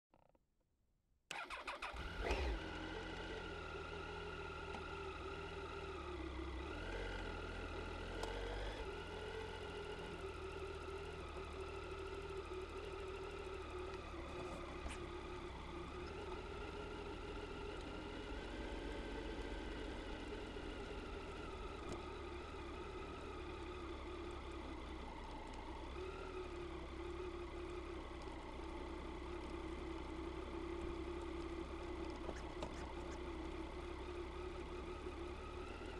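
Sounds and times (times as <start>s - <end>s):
motorcycle engine at low revs: 1.3s - 35.9s.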